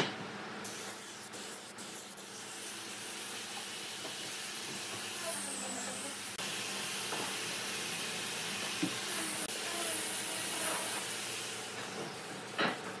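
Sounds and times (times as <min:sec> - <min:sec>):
spray gun hissing: 0:00.6 - 0:13.0.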